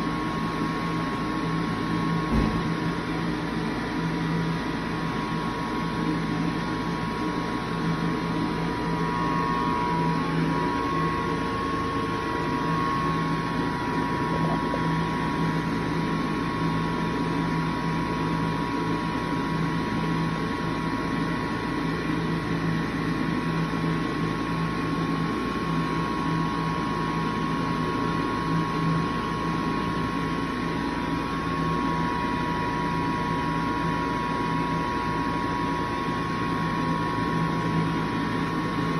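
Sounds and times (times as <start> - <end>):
hand dryer running: 0.0 - 38.9.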